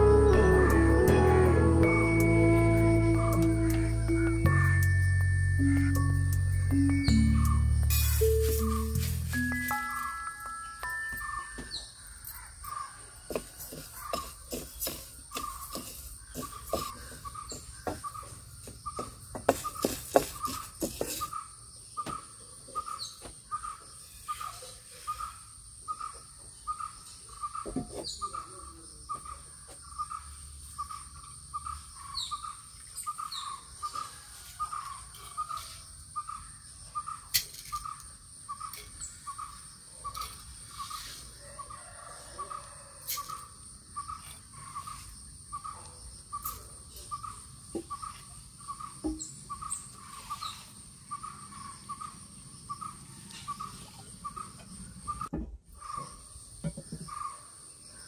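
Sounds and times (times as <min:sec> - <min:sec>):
insect high-pitched whine: 0:00.0 - 0:13.4, 0:22.8 - 0:58.0.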